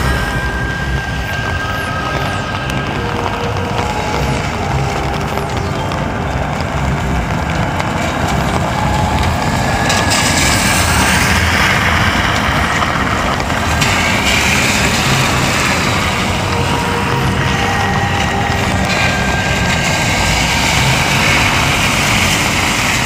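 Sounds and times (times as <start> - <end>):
steady rain: 0.0 - 23.0
tyres hissing on wet road: 0.0 - 23.0.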